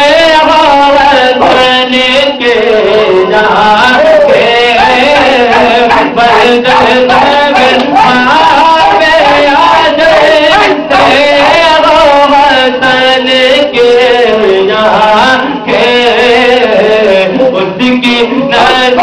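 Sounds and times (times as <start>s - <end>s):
man singing ornamented melody: 0.0s - 19.0s.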